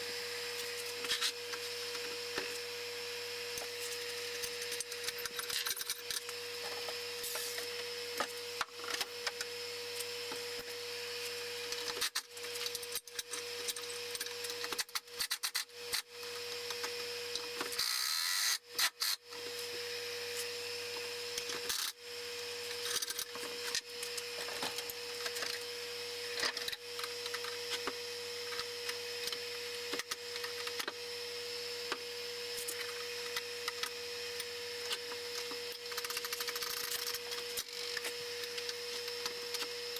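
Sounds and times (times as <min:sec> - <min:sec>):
small electric motor whirring: 0:00.0 - 0:39.9.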